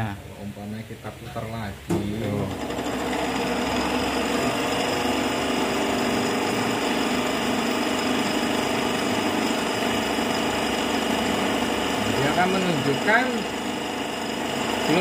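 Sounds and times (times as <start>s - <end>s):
balancing machine spinning rotor: 2.5s - 15.0s.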